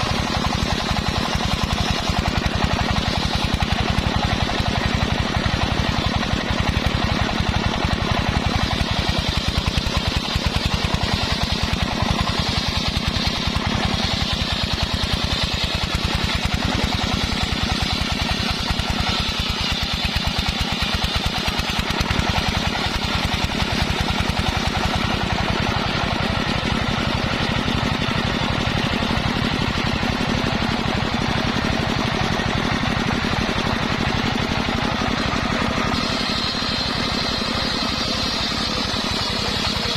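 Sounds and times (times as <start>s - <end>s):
engine-driven circular saw cutting wood: 0.0s - 39.9s.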